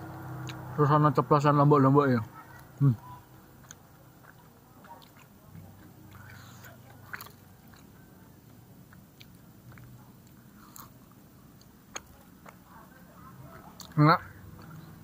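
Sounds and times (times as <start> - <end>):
close-up chewing and biting: 2.3 - 15.0.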